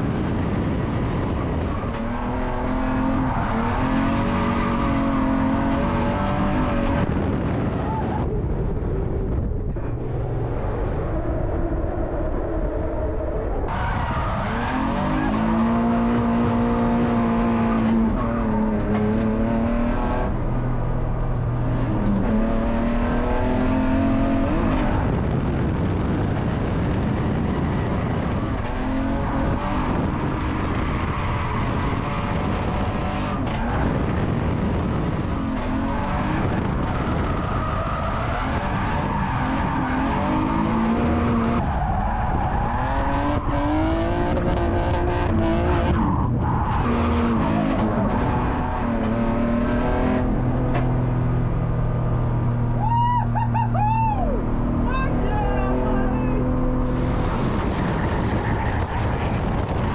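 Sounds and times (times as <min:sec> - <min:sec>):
car engine revving: 0:00.0 - 0:08.3, 0:13.7 - 0:59.9.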